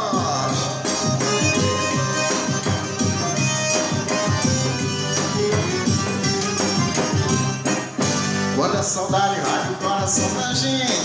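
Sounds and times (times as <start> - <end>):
band playing instrumental music: 0.0 - 11.0.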